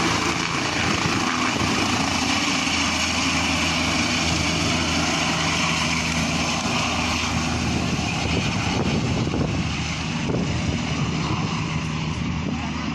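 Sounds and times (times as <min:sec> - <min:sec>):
helicopter engine and rotor: 0:00.0 - 0:12.9.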